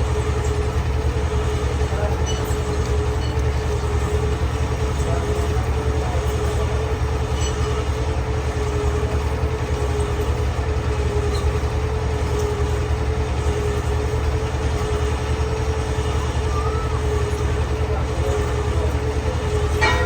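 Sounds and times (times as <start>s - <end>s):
boring machine rumbling: 0.0s - 20.0s.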